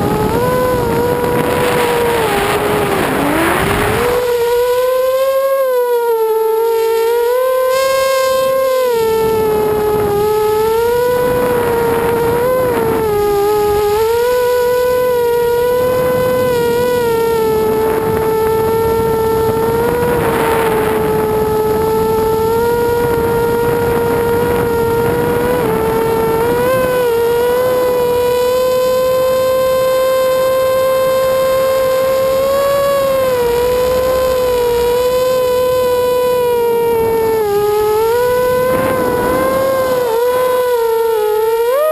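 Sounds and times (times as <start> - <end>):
quadcopter motors whining: 0.0 - 41.9.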